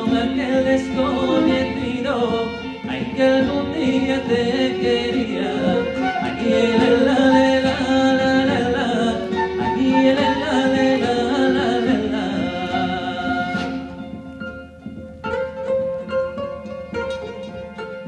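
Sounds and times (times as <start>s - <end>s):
live folk band with singing: 0.0s - 18.0s.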